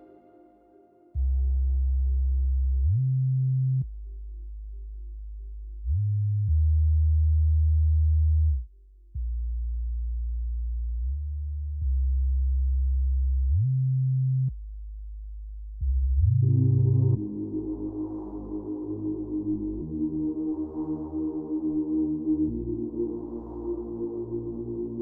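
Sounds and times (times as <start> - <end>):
deep sub bass notes: 1.2 - 25.0.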